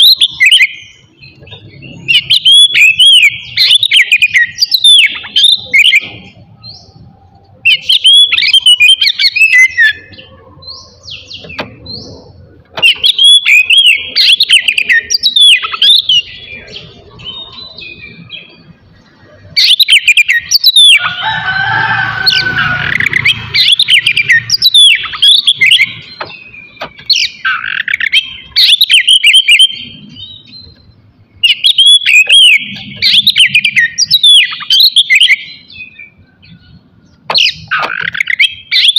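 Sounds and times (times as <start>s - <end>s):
bird singing whistles and trills: 0.0s - 21.1s, 22.3s - 38.9s.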